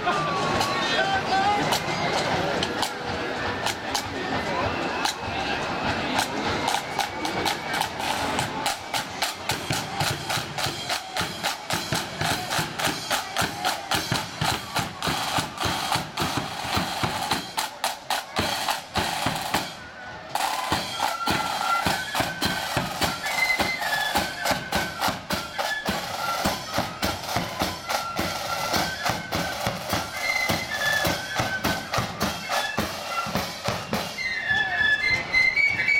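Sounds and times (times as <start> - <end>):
side drums: 0.0 - 35.3
flutes playing a melody: 0.1 - 35.9.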